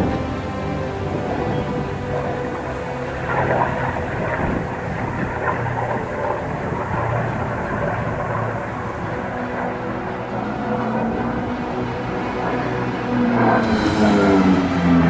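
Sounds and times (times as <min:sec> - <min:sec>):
propeller aircraft engine drone: 0:00.0 - 0:15.0.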